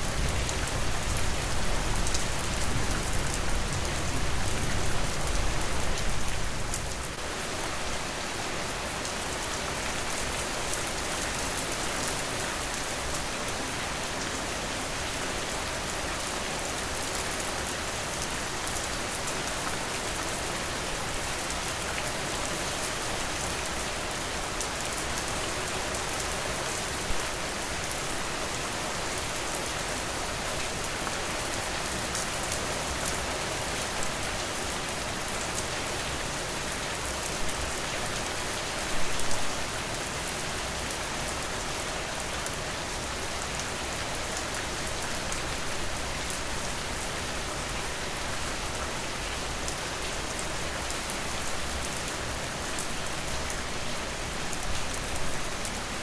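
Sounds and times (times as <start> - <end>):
rain pattering: 0.0 - 14.3, 15.4 - 56.0.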